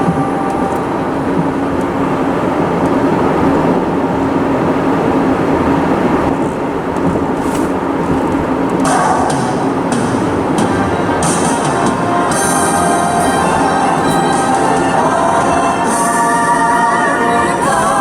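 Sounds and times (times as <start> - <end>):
freight train rumbling by: 0.0 - 18.0
low hum: 0.0 - 18.0.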